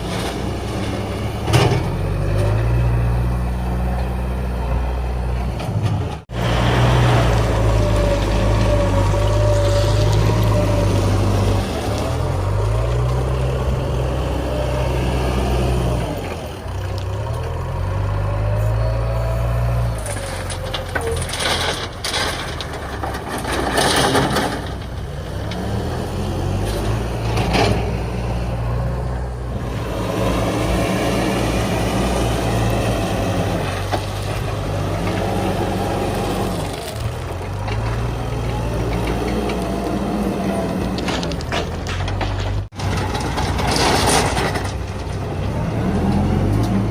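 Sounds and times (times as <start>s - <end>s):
diesel engine revving: 0.0s - 46.9s.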